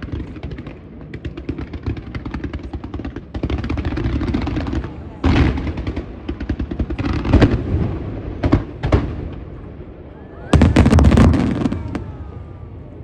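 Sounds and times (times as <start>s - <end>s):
fireworks bursting: 0.0s - 9.7s, 10.5s - 12.9s.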